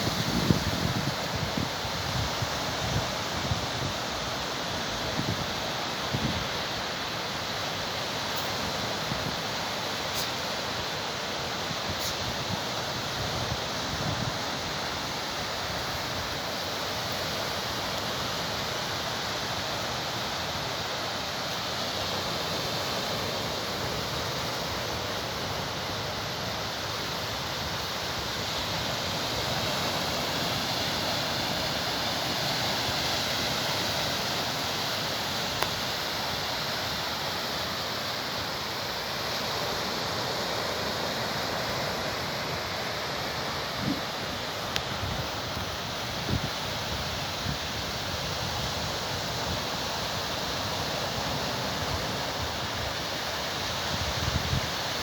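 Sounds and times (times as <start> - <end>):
sea surf washing on shore: 0.0 - 55.0.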